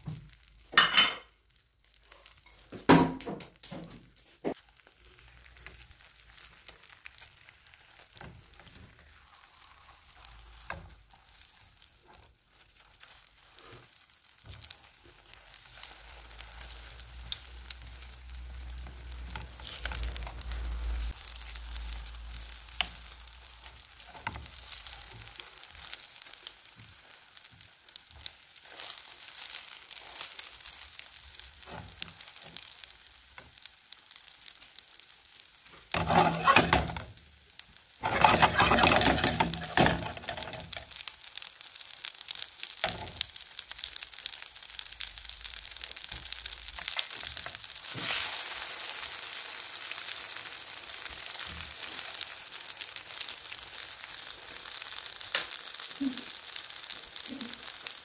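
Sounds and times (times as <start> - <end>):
omelette sizzling in a pan: 0.0 - 58.0.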